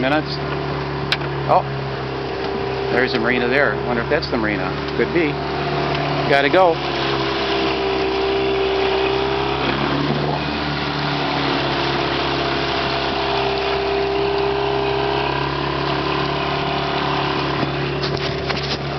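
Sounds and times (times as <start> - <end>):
outboard motor running: 0.0 - 18.9
water rushing past hull: 0.0 - 18.9
wind: 0.0 - 18.9.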